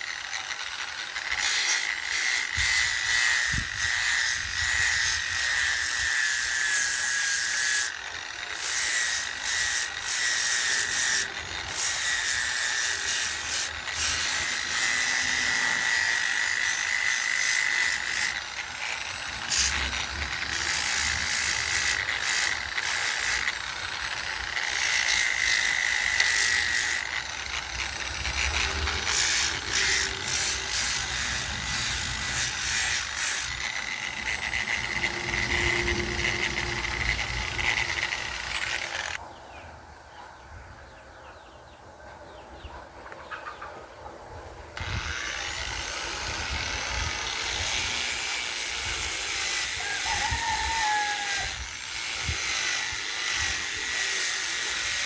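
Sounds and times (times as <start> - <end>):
cutter grinding wood: 0.0 - 39.2, 44.8 - 55.0
rotary tool motor whine: 0.0 - 39.2, 44.8 - 55.0.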